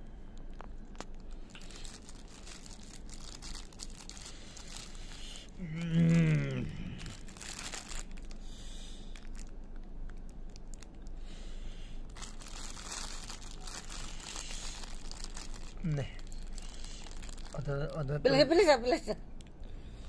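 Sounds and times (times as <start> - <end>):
plastic bag crinkling: 0.4 - 11.2, 12.0 - 18.1.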